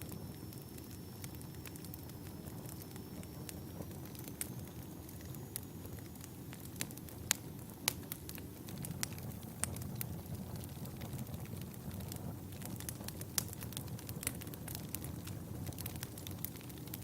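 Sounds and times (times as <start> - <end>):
fire crackling and popping: 0.0 - 17.0
low rumble of burning logs: 0.0 - 17.0.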